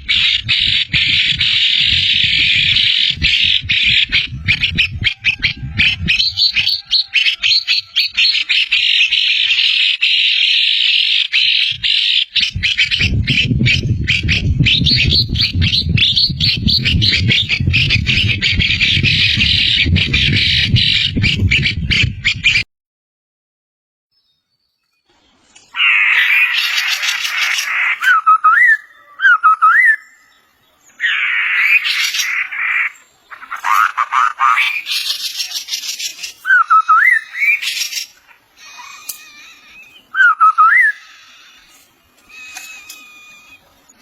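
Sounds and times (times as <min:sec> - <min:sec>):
small birds chattering: 0:00.0 - 0:22.2, 0:25.0 - 0:44.0.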